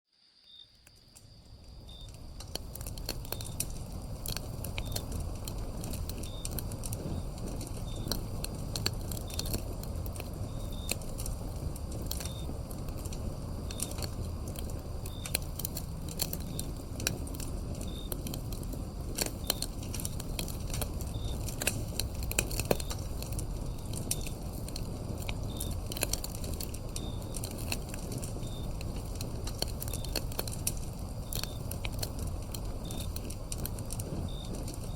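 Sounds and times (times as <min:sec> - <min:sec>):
crickets chirping: 0:00.1 - 0:34.9
wood fire crackling and popping: 0:00.4 - 0:34.9
low rumble of flames: 0:00.7 - 0:34.9.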